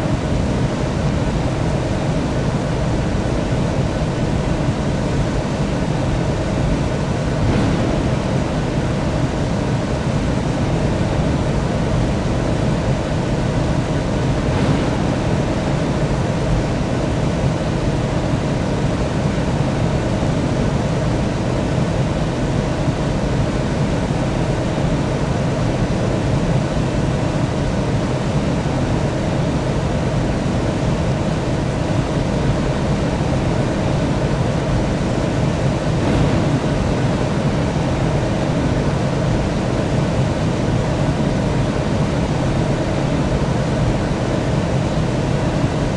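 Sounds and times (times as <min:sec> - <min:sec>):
jet airliner engine drone: 0:00.0 - 0:45.9.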